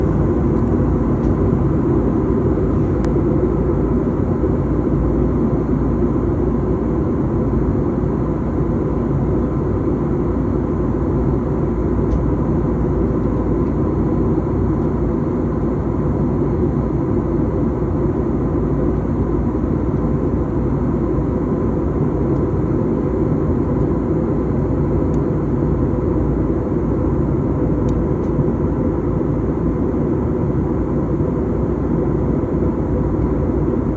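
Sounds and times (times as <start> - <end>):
airliner cabin engine drone: 0.0 - 33.9
constant hum: 0.0 - 33.9.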